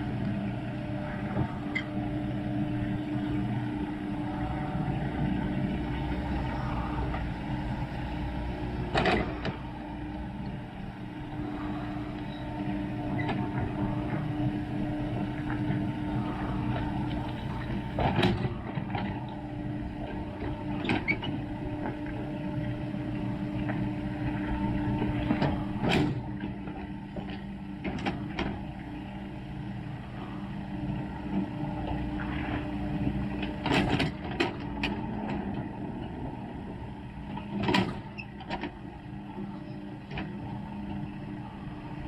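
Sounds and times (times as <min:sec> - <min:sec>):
low engine hum: 0:00.0 - 0:42.0.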